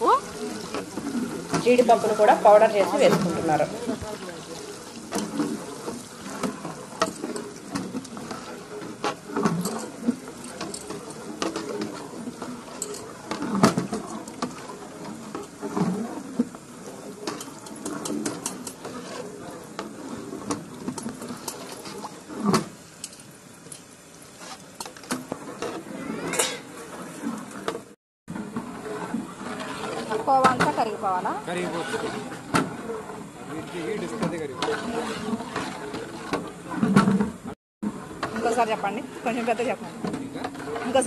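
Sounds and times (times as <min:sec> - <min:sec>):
metal ladle scraping a pot: 0:00.0 - 0:27.8, 0:28.4 - 0:41.0.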